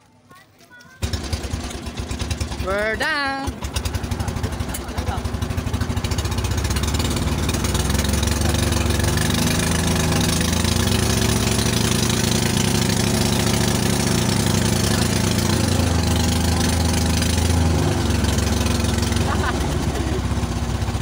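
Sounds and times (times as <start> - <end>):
small boat engine running: 1.0 - 21.0.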